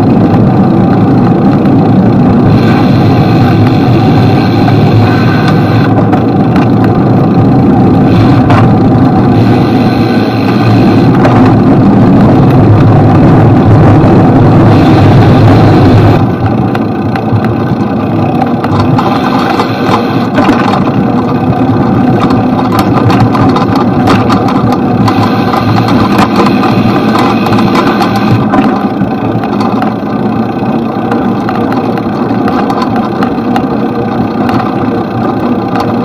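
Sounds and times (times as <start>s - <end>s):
city traffic road noise: 0.0s - 36.0s.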